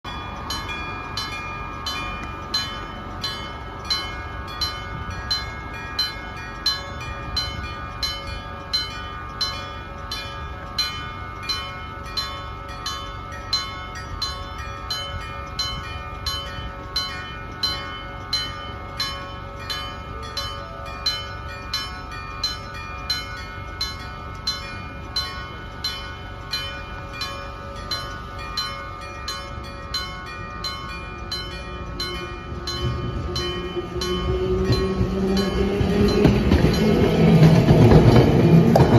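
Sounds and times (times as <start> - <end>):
level crossing bell ringing: 0.0 - 38.8.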